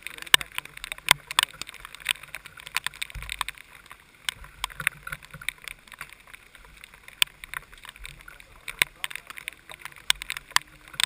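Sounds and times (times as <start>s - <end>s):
raindrops ticking on camera housing: 0.0s - 11.0s.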